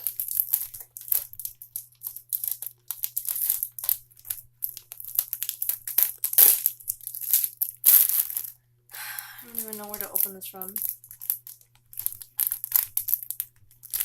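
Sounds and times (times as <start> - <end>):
wrapping rustling and crackling: 0.0 - 14.0.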